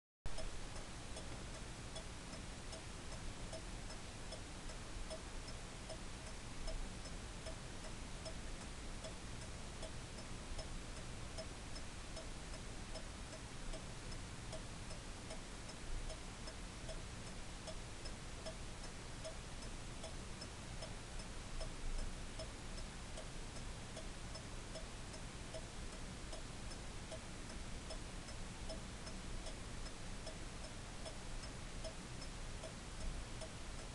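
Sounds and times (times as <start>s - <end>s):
clock ticking: 0.3s - 33.9s
low background hum: 0.3s - 33.9s.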